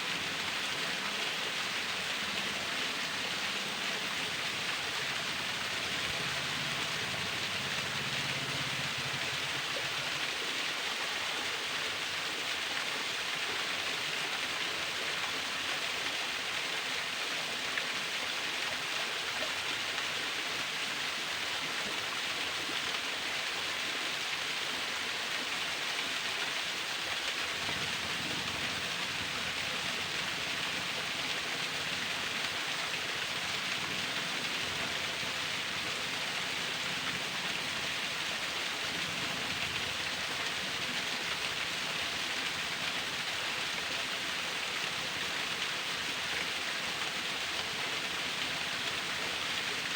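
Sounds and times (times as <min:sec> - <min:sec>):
waterfall splashing: 0:00.0 - 0:49.9.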